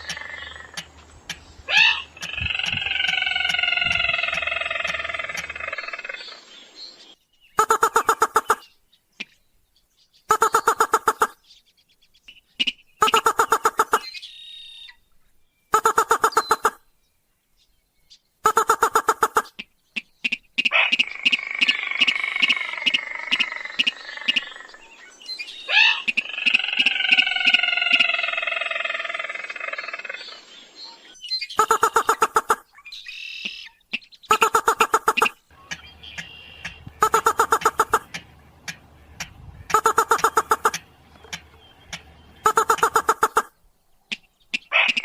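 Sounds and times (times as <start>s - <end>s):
bird trill calls: 0.0s - 9.4s, 10.3s - 11.6s, 12.2s - 15.0s, 15.7s - 16.9s, 18.5s - 45.0s
long layered bird call: 0.0s - 45.0s.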